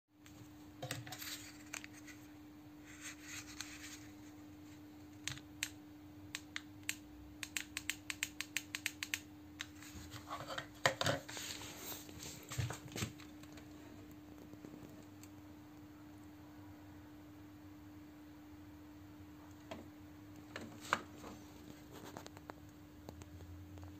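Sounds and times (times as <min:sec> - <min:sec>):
faint steady hum: 0:00.2 - 0:23.9.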